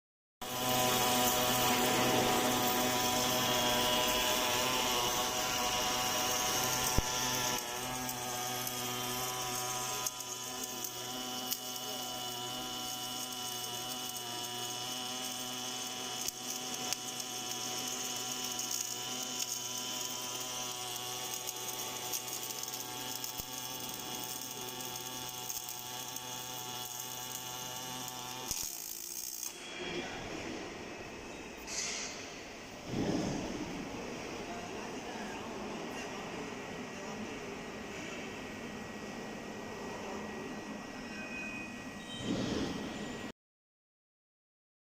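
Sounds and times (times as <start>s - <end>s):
welding machine hum with high whine: 0.4s - 43.3s.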